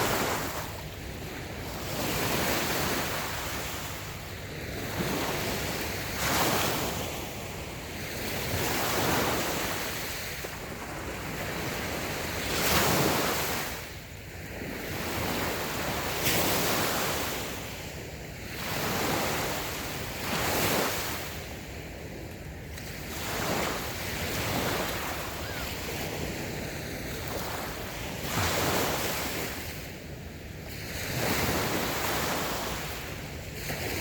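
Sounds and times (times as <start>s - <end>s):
small waves breaking on beach: 0.0s - 34.0s
wind on microphone: 0.0s - 34.0s.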